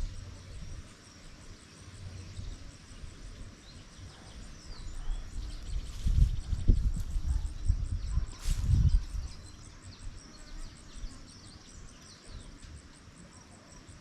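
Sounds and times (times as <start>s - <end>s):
wind rumble on microphone: 0.0s - 12.4s
birds chirping: 0.0s - 13.1s.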